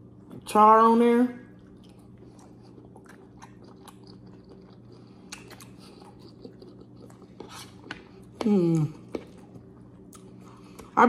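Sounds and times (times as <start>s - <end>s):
steady low hum: 0.0s - 11.0s
people chewing food: 1.5s - 11.0s.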